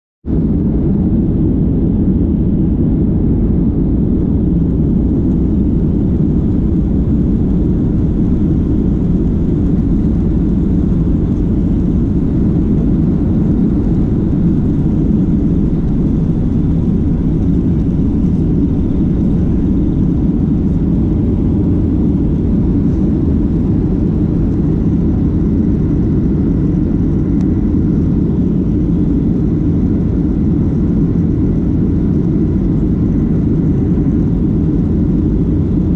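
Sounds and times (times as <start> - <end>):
jet engines rumbling: 0.3 - 35.9.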